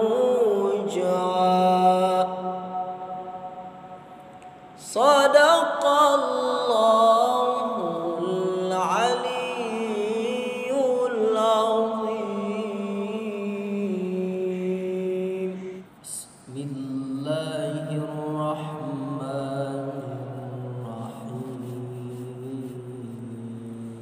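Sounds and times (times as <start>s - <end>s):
man reciting in sung style: 0.0s - 3.7s, 4.8s - 24.0s.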